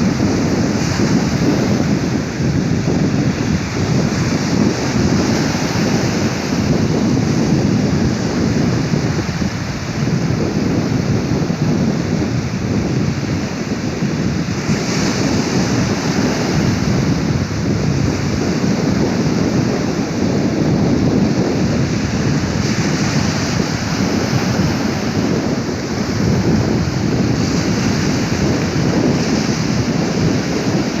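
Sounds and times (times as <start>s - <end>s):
waves washing ashore: 0.0s - 31.0s.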